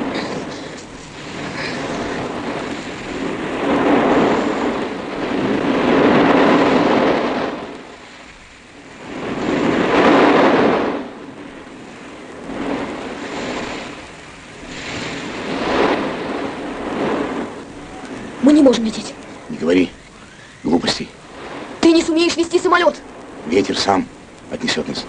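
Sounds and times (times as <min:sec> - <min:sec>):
sea waves on a beach: 0:00.0 - 0:25.0.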